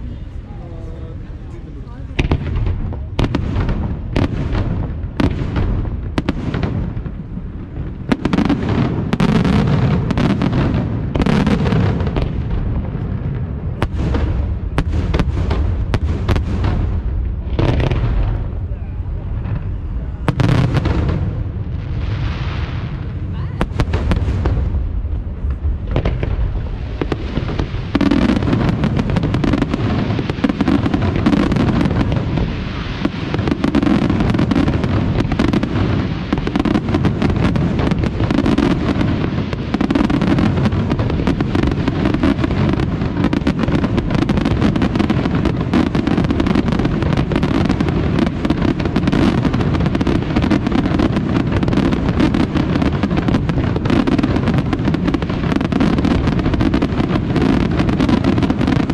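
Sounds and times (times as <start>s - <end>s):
fireworks bangs: 0.0s - 58.9s.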